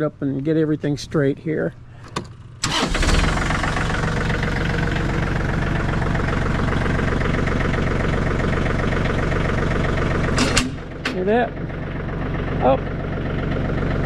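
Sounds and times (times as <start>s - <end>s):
tractor diesel engine starting: 2.0s - 14.0s.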